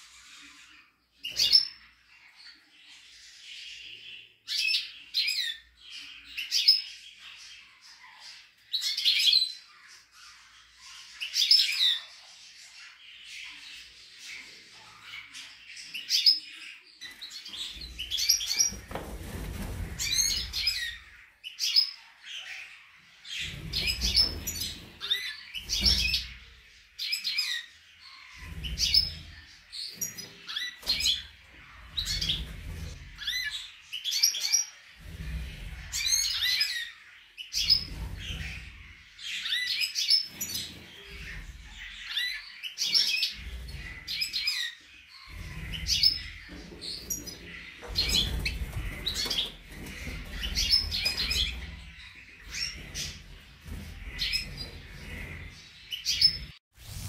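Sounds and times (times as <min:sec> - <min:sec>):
songbirds chirping and twittering: 0:00.0 - 0:57.0.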